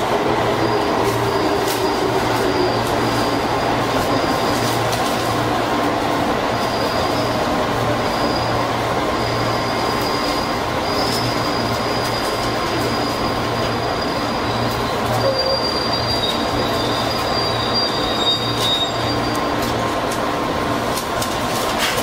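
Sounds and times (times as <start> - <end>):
electric train rumbling: 0.0 - 22.0
high-pitched train whine: 0.0 - 22.0.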